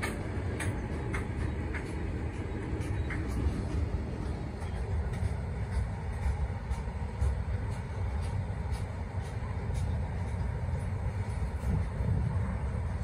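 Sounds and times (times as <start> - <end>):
train wagons rumbling: 0.0 - 13.0
wheel clicks on rails: 0.0 - 13.0.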